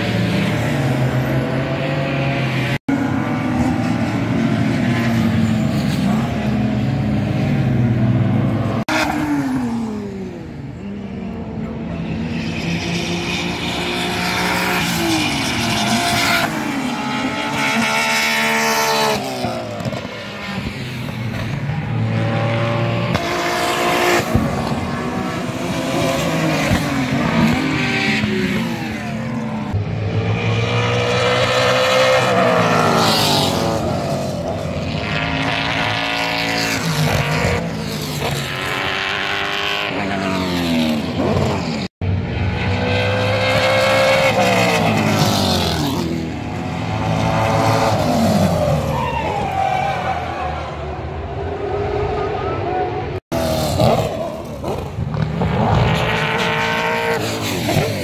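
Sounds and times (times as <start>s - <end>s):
race cars passing: 0.0s - 58.0s.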